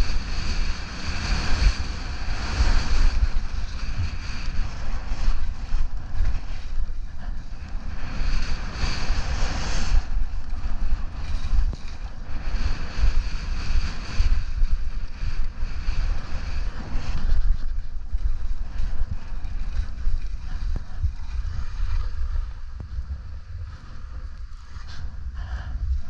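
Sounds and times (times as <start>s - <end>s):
skis scraping over hard snow: 0.0s - 25.3s
wind rumbling on microphone: 0.0s - 26.0s.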